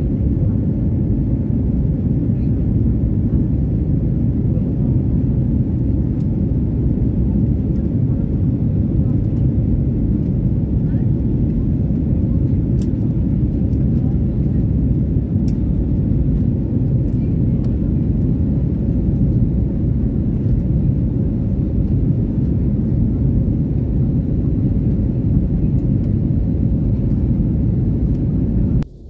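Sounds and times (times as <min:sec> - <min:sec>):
jet engines rumbling in cabin: 0:00.0 - 0:29.0.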